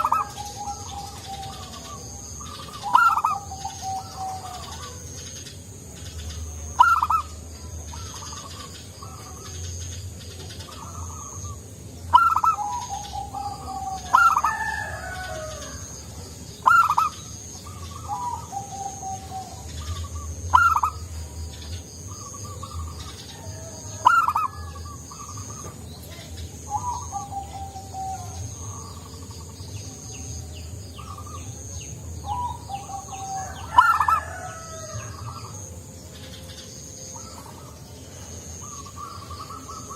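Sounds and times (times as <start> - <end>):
dove cooing: 0.0 - 5.6, 6.2 - 39.9.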